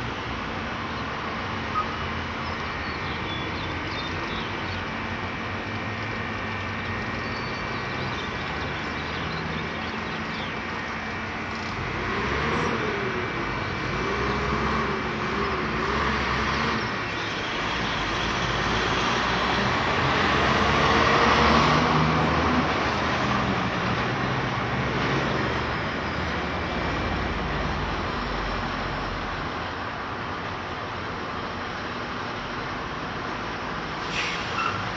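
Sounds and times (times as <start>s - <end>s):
cars and trucks passing: 0.0s - 34.9s.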